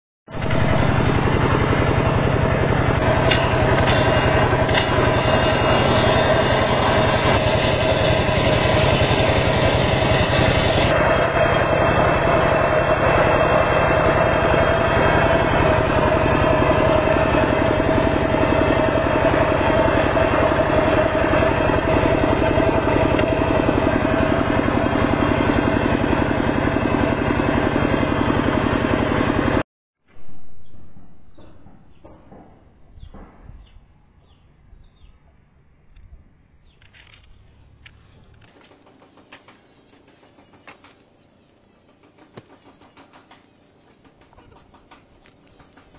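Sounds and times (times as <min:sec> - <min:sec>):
circular saw blade spinning: 0:00.3 - 0:29.6, 0:38.4 - 0:45.9
diesel engine running: 0:00.3 - 0:29.6, 0:37.0 - 0:45.9.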